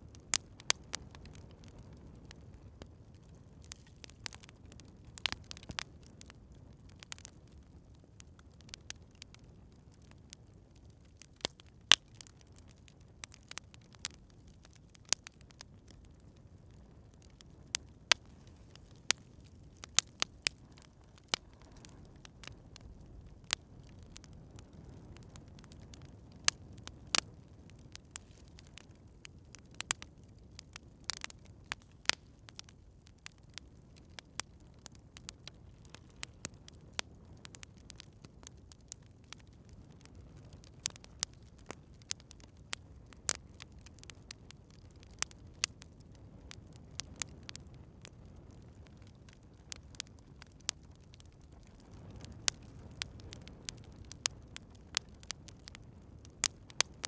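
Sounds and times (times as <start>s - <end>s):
campfire crackling: 0.0s - 57.0s
low rumble of burning: 0.0s - 57.0s.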